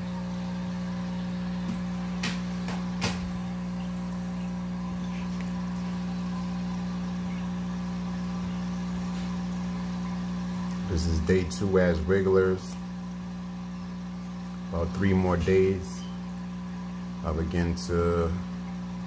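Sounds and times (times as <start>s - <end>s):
aquarium equipment humming: 0.0s - 19.0s.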